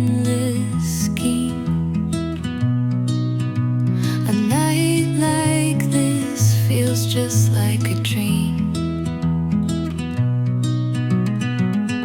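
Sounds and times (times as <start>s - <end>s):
soft acoustic guitar music: 0.0s - 12.0s.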